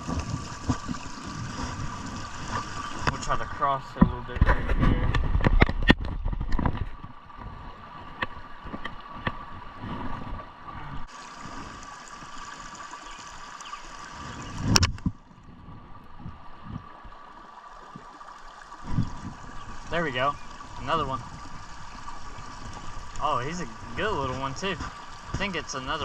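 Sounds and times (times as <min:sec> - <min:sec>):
creek water gurgling: 0:00.0 - 0:26.0.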